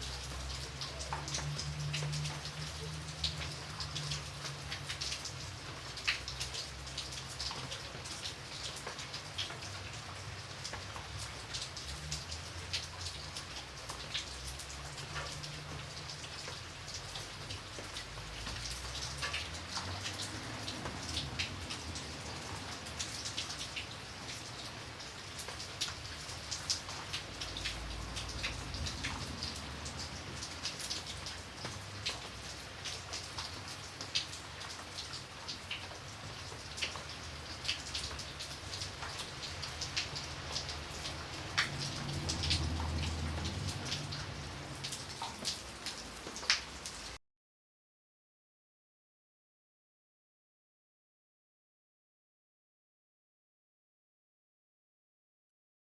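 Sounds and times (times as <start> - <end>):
raindrops tapping: 0.0 - 47.2.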